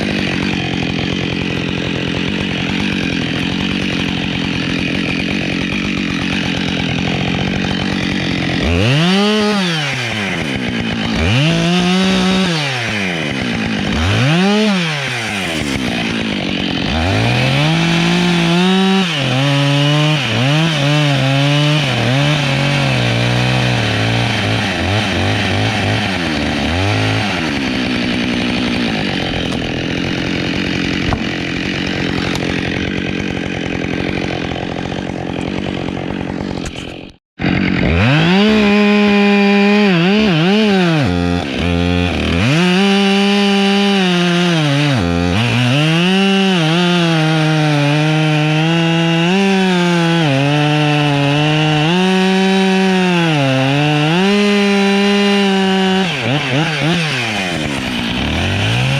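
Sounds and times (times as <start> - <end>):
chainsaw revving and cutting wood: 0.0 - 58.9.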